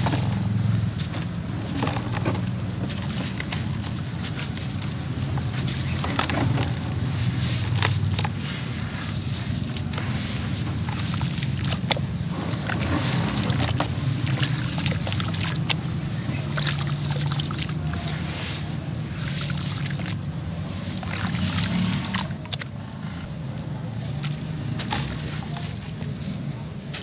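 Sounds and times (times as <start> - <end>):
gritty crackles of wet block: 0.0 - 27.0
water sloshing and splashing: 0.0 - 27.0.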